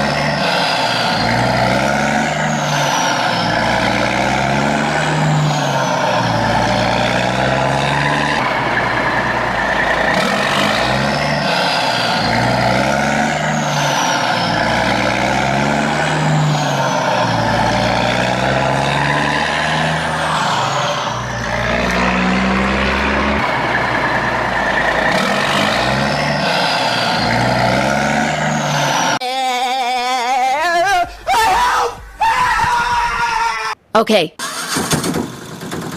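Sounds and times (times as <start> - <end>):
heavy vehicle engine looping: 0.0 - 29.2.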